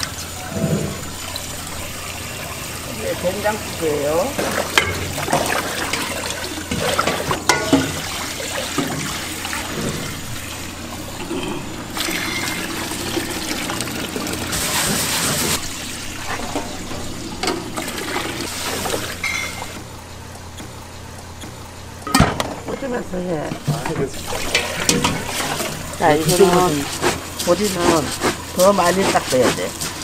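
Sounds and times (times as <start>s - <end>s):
water running and trickling: 0.0s - 19.8s, 23.3s - 30.0s.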